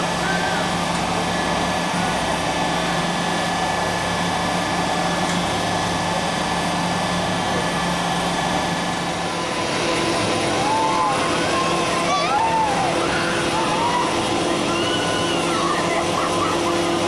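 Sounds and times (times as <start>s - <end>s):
fairground machinery drone: 0.0s - 17.0s.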